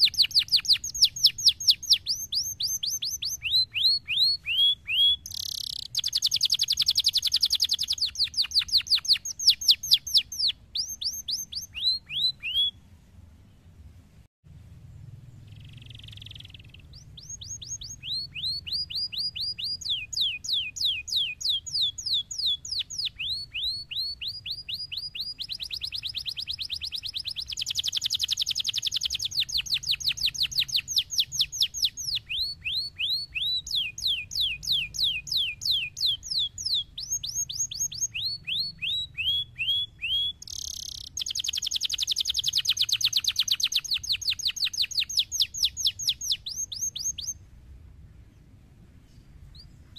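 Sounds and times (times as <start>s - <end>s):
canary singing: 0.0s - 12.9s, 15.3s - 47.5s.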